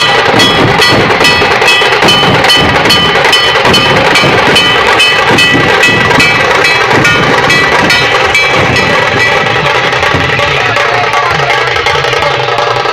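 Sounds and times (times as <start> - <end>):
drums beating steady rhythm: 0.0 - 12.9
drums rolling rapidly: 0.0 - 12.9.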